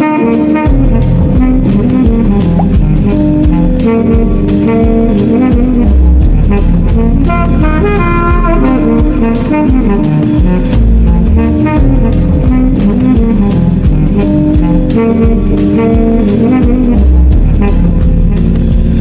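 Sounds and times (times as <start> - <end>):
jazzy music with brass: 0.0 - 19.0
steady drum beat: 0.0 - 19.0.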